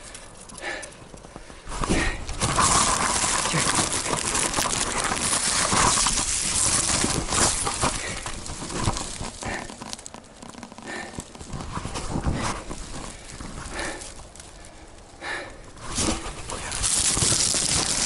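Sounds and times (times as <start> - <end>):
footsteps on rocky leafy path: 0.0 - 18.0.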